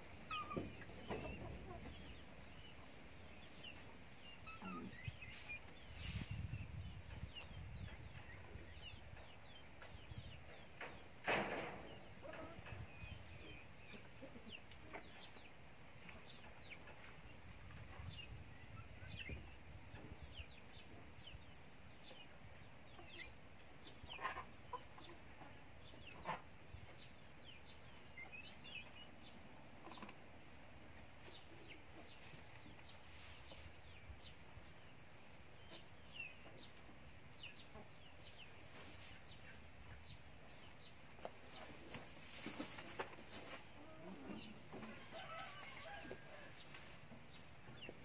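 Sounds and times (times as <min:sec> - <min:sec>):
chickens clucking: 0:00.0 - 0:48.0.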